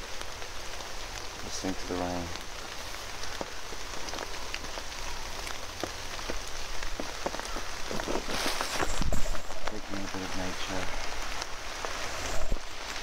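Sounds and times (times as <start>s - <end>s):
rain hissing: 0.0s - 13.0s
raindrops ticking on leaves: 0.0s - 13.0s.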